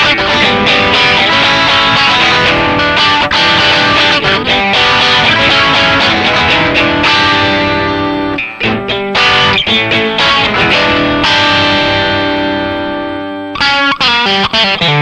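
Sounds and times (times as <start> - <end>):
electric guitar chords and strums: 0.0 - 15.0.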